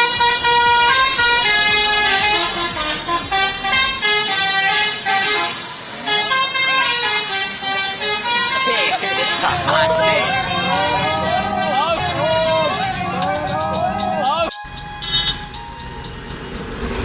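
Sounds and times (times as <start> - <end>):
bus musical horn melody: 0.0 - 16.7.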